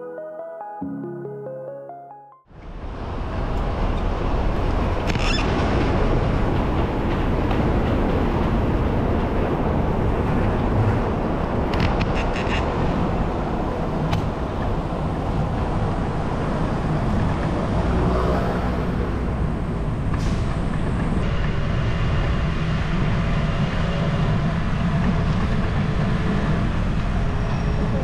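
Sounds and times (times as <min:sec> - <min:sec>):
street traffic: 0:02.5 - 0:28.0.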